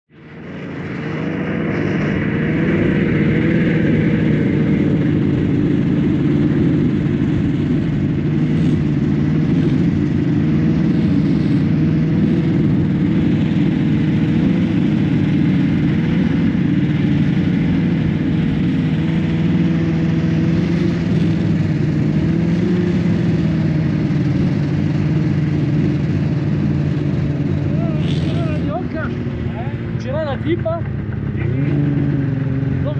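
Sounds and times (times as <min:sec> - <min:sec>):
snowmobile engine droning: 0:00.1 - 0:32.9
rushing ride noise: 0:00.2 - 0:32.9.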